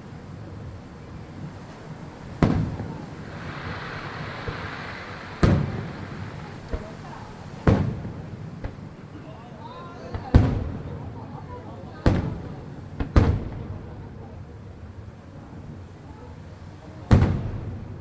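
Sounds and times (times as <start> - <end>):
fireworks booming: 0.0 - 18.0
fireworks crackling: 0.0 - 18.0.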